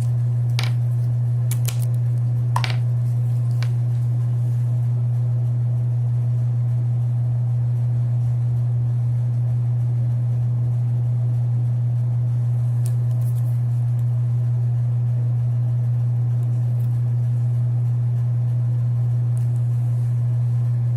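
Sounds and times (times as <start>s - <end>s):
steady low-pitched hum: 0.0s - 20.9s.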